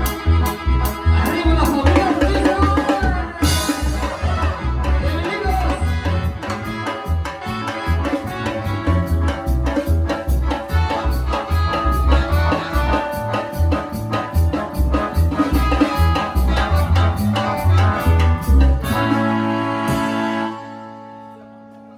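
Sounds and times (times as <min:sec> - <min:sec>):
latin dance band music: 0:00.0 - 0:21.9.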